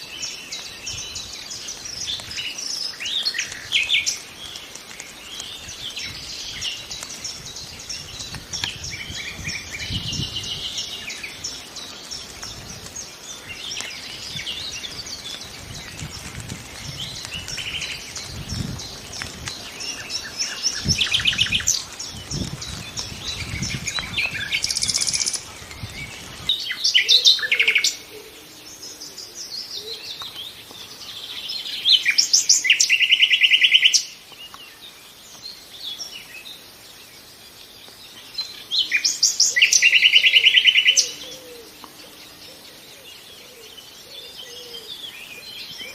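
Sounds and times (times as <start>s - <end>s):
nightingale singing: 0.0s - 45.9s.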